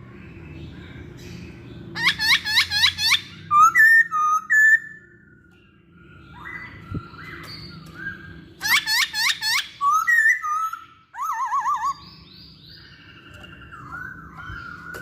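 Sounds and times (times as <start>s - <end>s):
bird singing whistled phrases: 2.0s - 5.5s, 6.1s - 15.0s.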